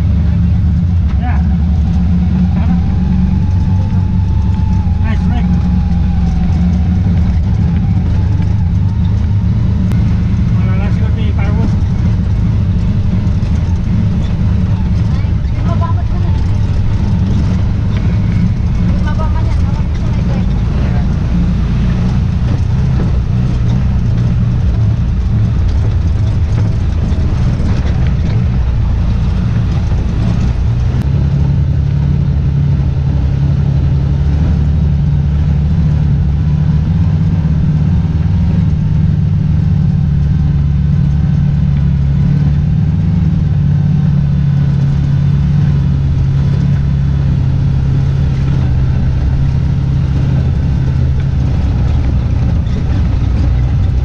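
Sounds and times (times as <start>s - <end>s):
off-road vehicle engine drone: 0.0s - 54.0s.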